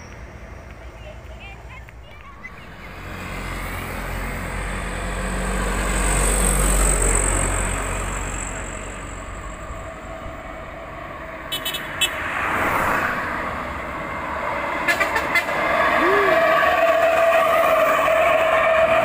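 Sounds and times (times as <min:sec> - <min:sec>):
truck driving past: 0:02.1 - 0:19.0.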